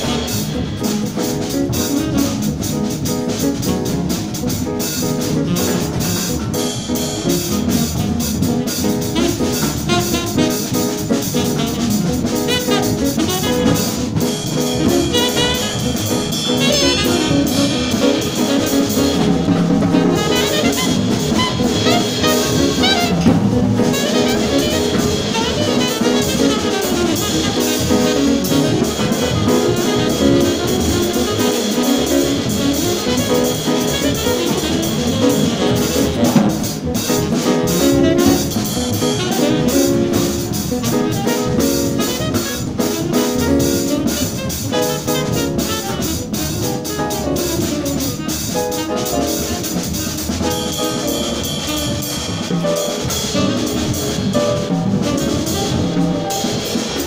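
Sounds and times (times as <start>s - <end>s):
drum kit played with sticks: 0.0s - 57.0s
jazz recording with saxophone: 0.0s - 57.0s.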